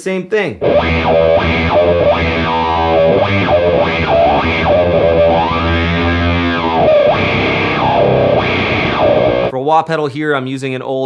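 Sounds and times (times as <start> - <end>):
distorted electric guitar riff: 0.6 - 9.5
wah pedal sweeps: 0.6 - 9.5.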